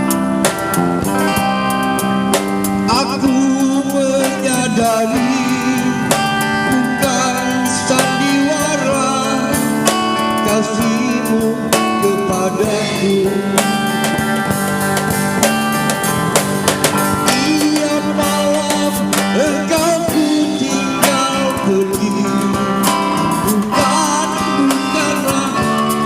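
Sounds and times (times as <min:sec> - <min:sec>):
guitar: 0:00.0 - 0:26.0
live band playing pop ballad: 0:00.0 - 0:26.0.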